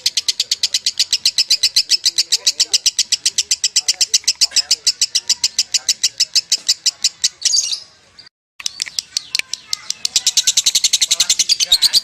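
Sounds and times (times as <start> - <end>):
lovebird chirping rapidly: 0.0 - 12.0.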